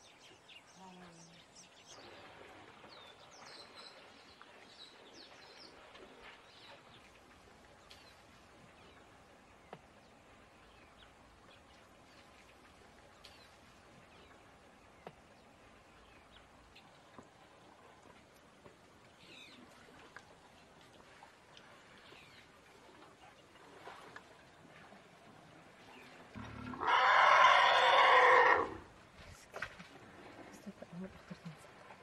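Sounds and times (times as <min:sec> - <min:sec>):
low steady hiss: 0:00.0 - 0:32.0.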